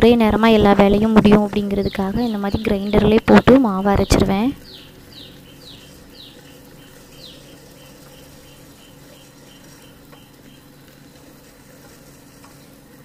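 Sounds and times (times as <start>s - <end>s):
wet grinder humming: 0.0s - 13.0s
high chirping pips: 0.2s - 12.9s.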